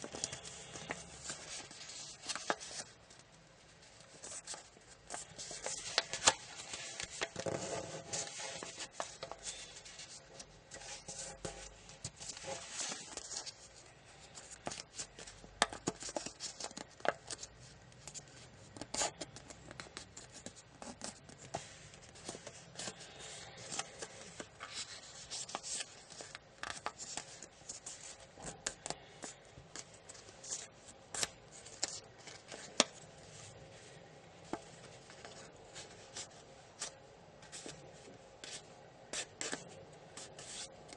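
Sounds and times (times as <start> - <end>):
paper rustling and crackling: 0.0 - 40.9.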